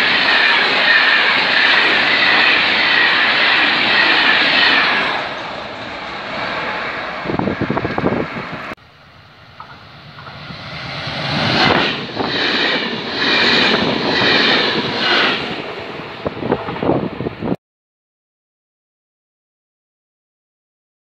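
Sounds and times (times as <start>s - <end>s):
electric train passing: 0.0s - 17.6s.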